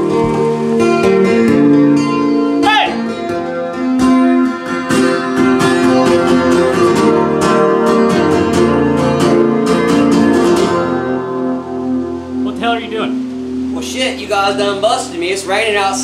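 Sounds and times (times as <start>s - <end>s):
acoustic guitar strummed: 0.0s - 16.0s.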